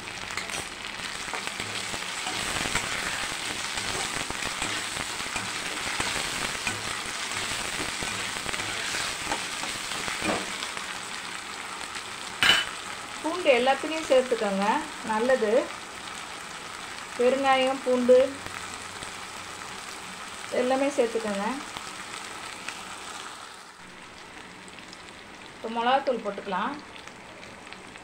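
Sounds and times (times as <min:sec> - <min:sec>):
onions and tomatoes sizzling in oil: 0:00.0 - 0:28.0.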